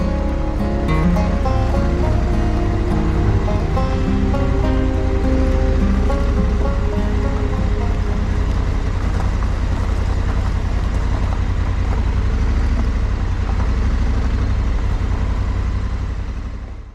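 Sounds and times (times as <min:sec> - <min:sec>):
motorcycle engine rumbling: 0:00.0 - 0:16.9.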